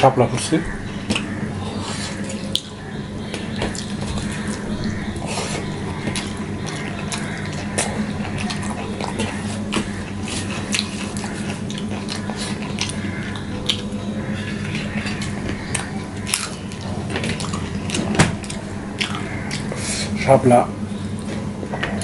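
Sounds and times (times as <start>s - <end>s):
chewing: 1.1s - 20.2s.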